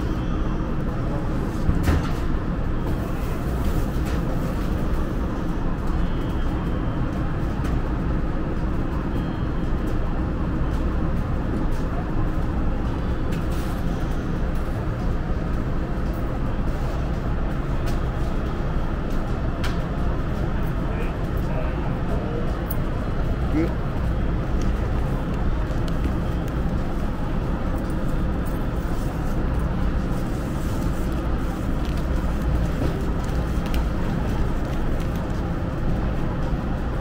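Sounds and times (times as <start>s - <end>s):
low rumble and murmur: 0.0s - 37.0s.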